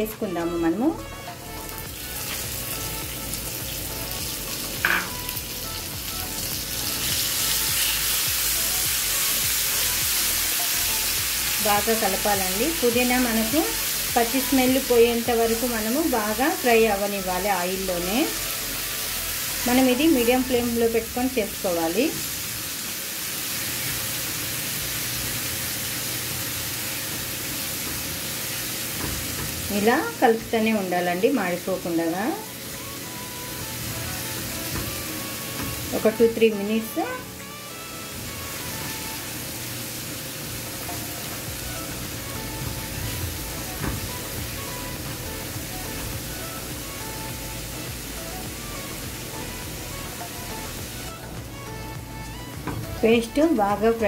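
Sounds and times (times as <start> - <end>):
hot oil sizzling in a pan: 1.4 - 54.0.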